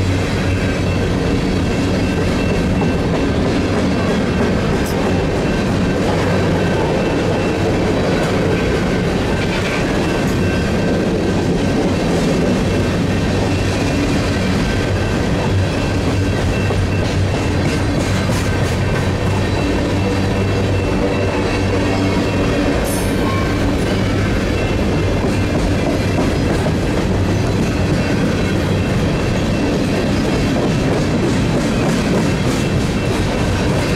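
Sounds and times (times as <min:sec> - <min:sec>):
freight train wheels rumbling: 0:00.0 - 0:33.9
wheels clickety-clack over track: 0:00.0 - 0:33.9.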